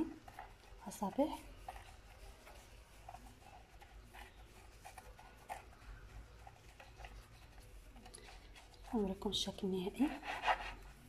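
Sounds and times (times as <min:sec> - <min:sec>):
faint rustling of gloved hands: 0:00.0 - 0:11.0.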